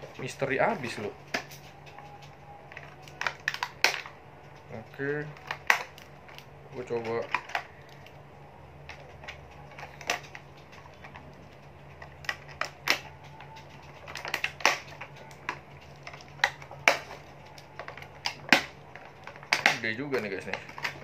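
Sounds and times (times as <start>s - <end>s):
plastic toy clicking and snapping: 1.3s - 8.2s, 8.8s - 21.0s.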